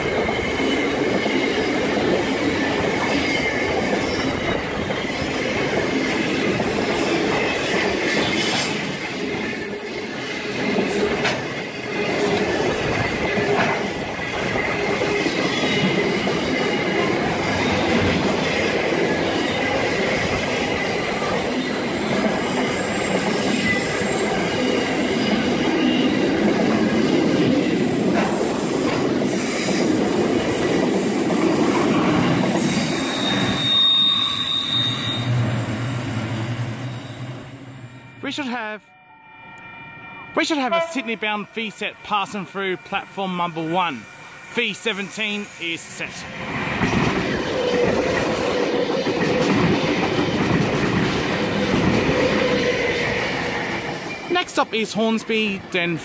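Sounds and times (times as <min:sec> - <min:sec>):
train wheels rumbling on rails: 0:00.0 - 0:37.9, 0:44.2 - 0:56.0.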